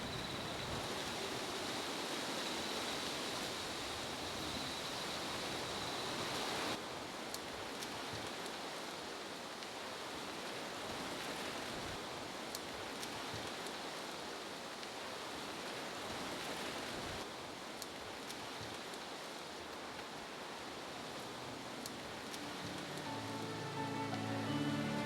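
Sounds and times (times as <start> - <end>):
outdoor noise hiss: 0.0 - 25.0.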